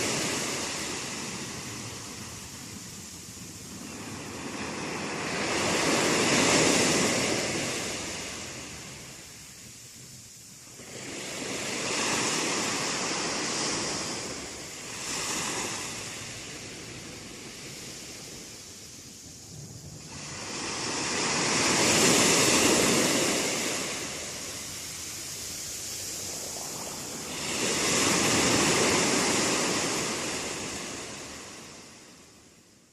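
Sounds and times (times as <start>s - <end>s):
sea waves washing in: 0.0s - 32.9s.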